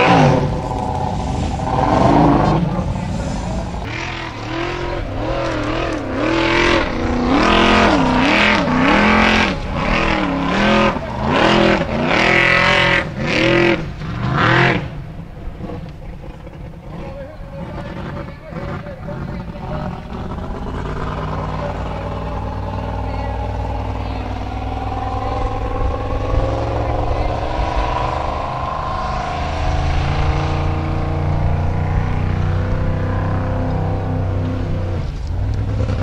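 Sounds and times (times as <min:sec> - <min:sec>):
buggy engine revving hard: 0:00.0 - 0:36.0.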